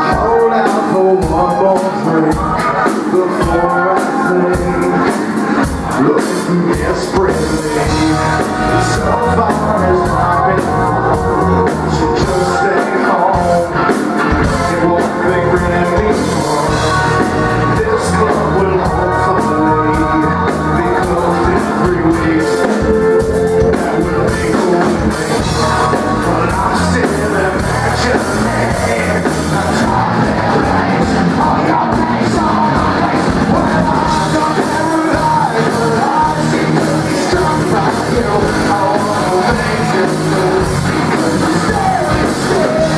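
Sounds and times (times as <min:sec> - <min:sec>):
distorted electric guitars: 0:00.0 - 0:42.9
drum kit: 0:00.0 - 0:42.9
live rock band: 0:00.0 - 0:42.9
sung vocals: 0:00.0 - 0:42.9.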